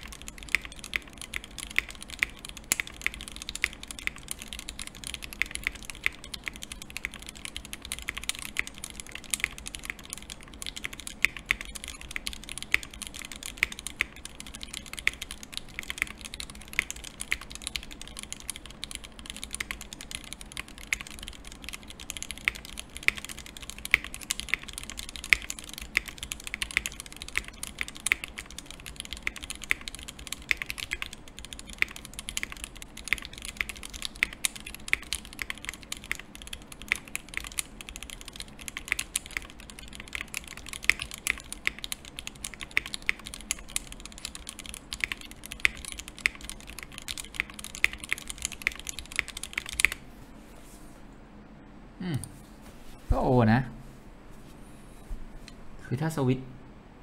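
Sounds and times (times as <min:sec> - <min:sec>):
fast typing on mechanical keyboard: 0:00.0 - 0:50.0.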